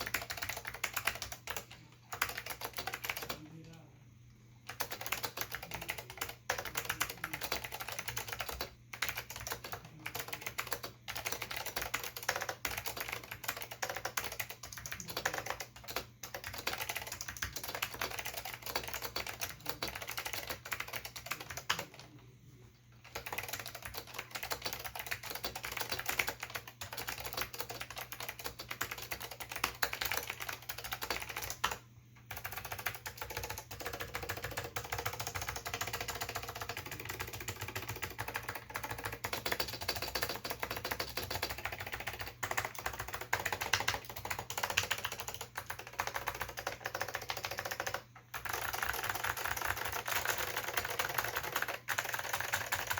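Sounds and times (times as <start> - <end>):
fast clicky keyboard typing: 0.0 - 3.8, 4.6 - 22.3, 22.9 - 52.9.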